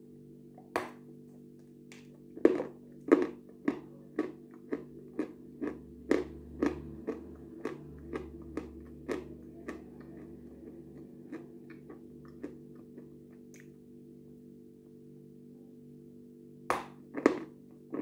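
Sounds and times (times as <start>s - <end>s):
crunching and chewing chalk: 0.6s - 13.9s, 16.7s - 18.0s.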